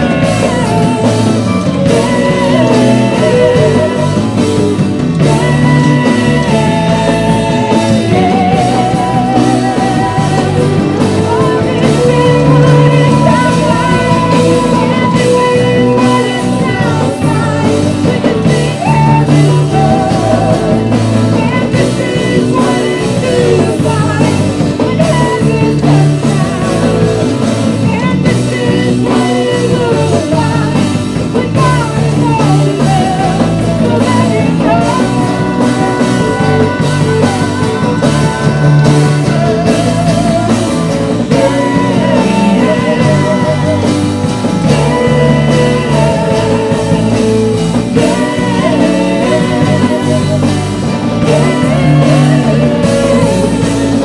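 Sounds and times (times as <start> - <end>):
keyboard: 0.0 - 54.0
woman singing into a microphone: 0.0 - 54.0.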